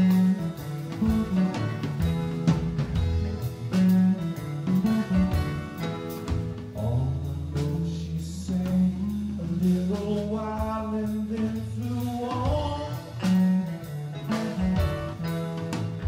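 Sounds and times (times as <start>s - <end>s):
drum and cymbal hits: 0.0s - 16.0s
electric guitar: 0.0s - 16.0s.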